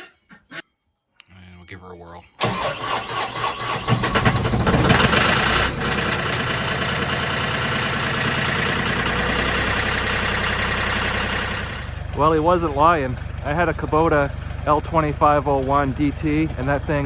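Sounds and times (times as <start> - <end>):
tractor diesel engine idling: 2.4 - 17.0.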